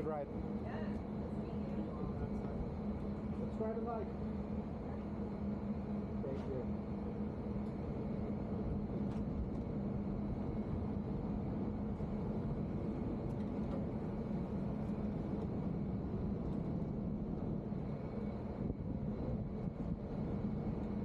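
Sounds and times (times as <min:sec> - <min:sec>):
continuous rushing noise: 0:00.0 - 0:21.0.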